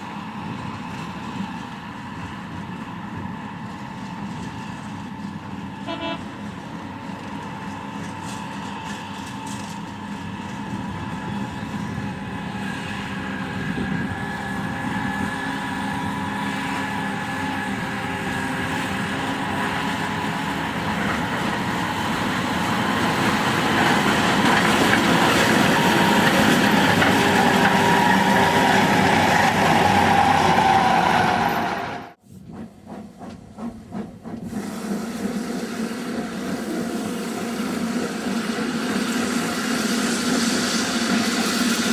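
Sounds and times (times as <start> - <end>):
rack train locomotive running: 0.0 - 41.9.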